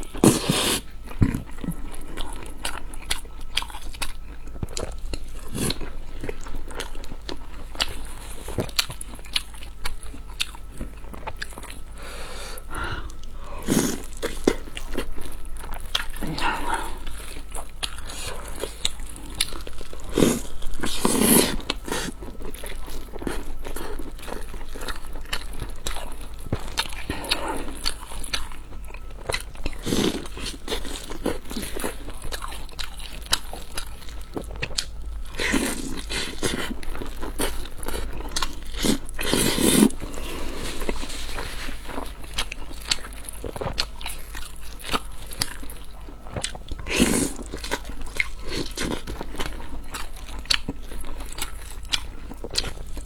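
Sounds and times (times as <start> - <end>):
chewing and mouth clicks: 0.0 - 12.0, 13.1 - 53.0.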